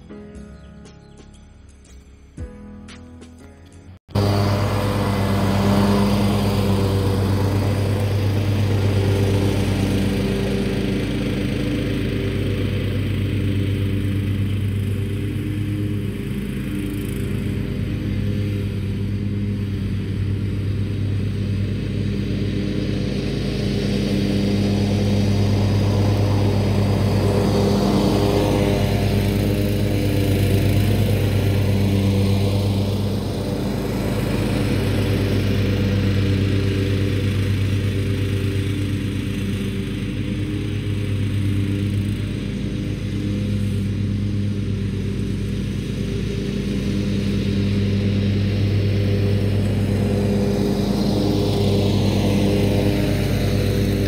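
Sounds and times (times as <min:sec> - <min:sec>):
riding mower engine running: 0:00.0 - 0:54.0.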